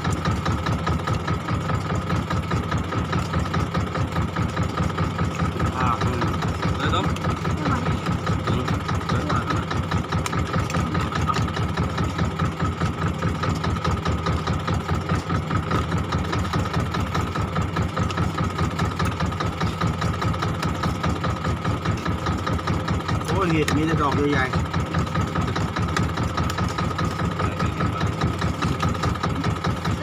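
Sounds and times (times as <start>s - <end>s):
boat engine chugging: 0.0s - 30.0s.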